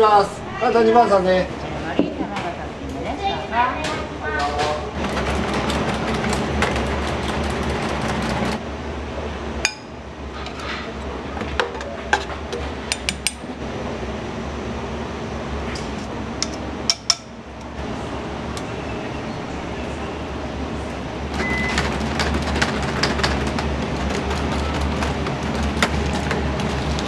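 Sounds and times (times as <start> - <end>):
kitchen background noise: 0.0 - 8.6, 9.2 - 13.6, 15.6 - 27.0.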